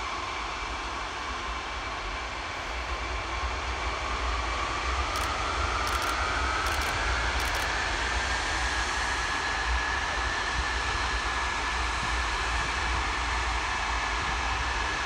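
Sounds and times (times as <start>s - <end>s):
jet fan whine: 0.0s - 15.0s.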